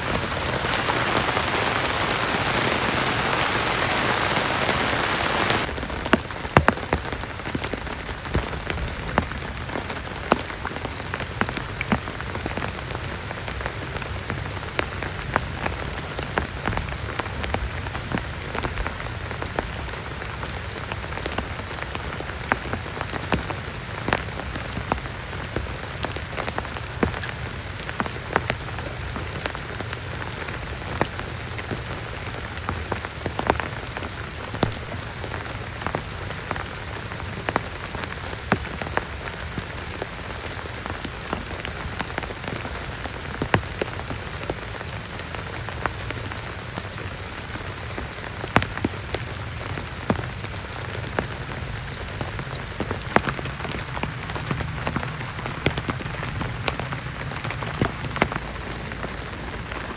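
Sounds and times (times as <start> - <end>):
heavy rain falling: 0.0 - 59.9
raindrop impacts: 0.0 - 59.9.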